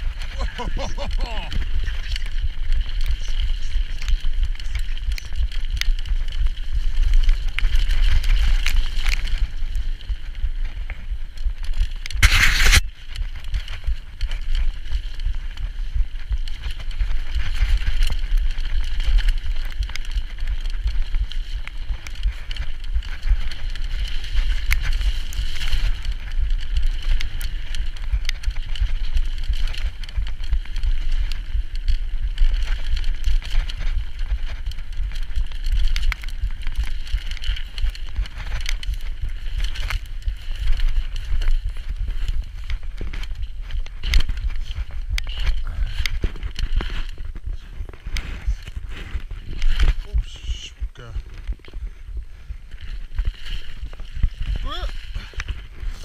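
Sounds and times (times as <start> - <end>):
bike rattling: 0.0 - 56.0
wind rumble on microphone: 0.0 - 56.0.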